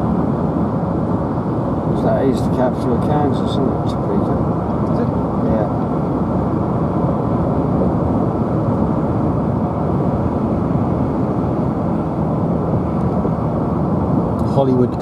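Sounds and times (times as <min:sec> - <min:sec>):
car interior road noise: 0:00.0 - 0:15.0.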